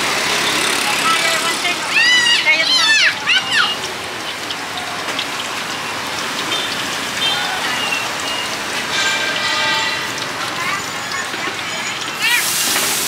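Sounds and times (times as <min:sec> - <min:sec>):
potatoes sizzling in hot oil: 0:00.0 - 0:13.0.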